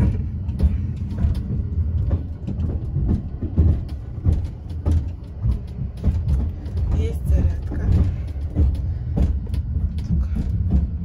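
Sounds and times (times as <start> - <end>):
clicks and knocks: 0.0 - 11.0
train interior rumble: 0.0 - 11.0.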